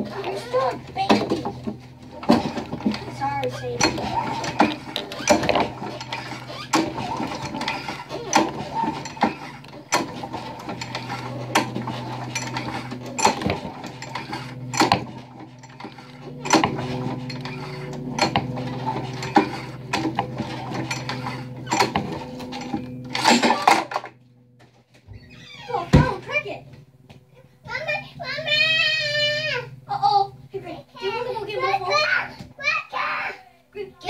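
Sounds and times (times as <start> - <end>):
irregular clicking and clattering: 0.0 - 32.7
small machine humming: 0.0 - 34.0.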